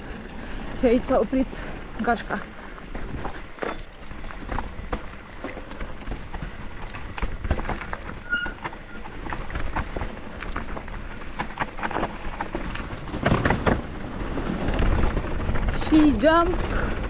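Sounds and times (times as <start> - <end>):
bike knocking and rattling: 0.0 - 17.0
bike tyres rumbling over dirt: 0.0 - 17.0.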